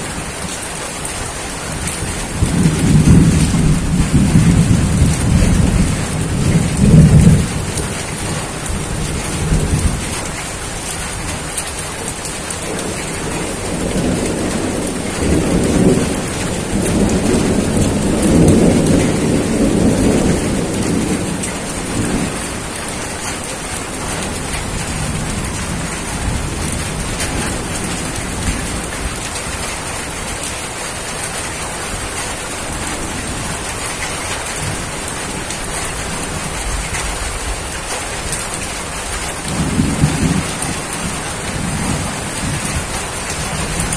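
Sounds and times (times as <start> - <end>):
rain falling: 0.0 - 43.9
thunder rumbling: 0.0 - 43.9.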